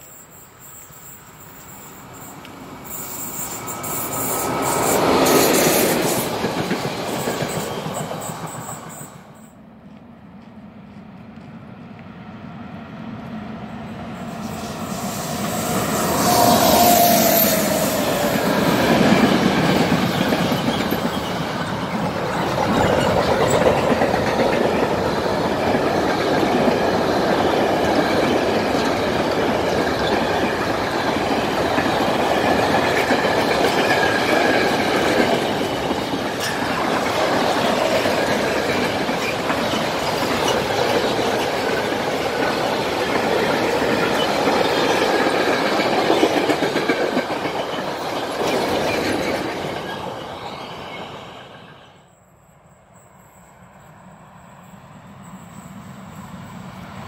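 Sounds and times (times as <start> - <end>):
train wheels clickety-clack: 0.0 - 12.2, 13.2 - 51.9
freight train passing: 0.0 - 57.0.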